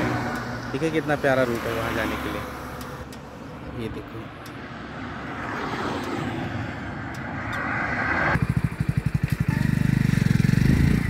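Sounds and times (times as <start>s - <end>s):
rushing wind and road noise: 0.0s - 9.3s.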